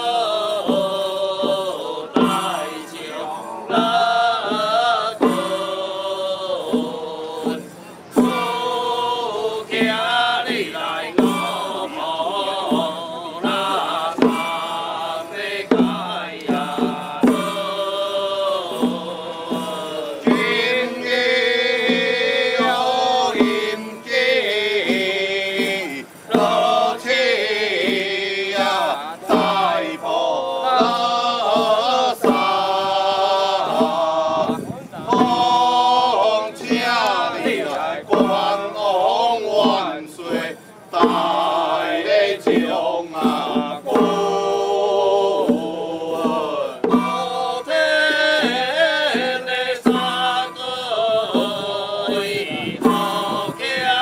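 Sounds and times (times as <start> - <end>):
music: 0.0 - 54.0
percussion strokes: 0.0 - 54.0
ritual chanting: 0.0 - 54.0.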